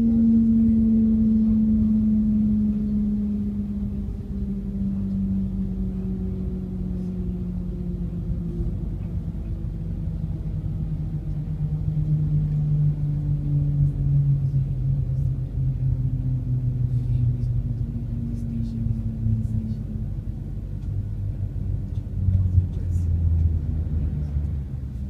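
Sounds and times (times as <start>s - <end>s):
low train rumble: 0.0s - 25.0s
train hum falling in pitch: 0.0s - 25.0s.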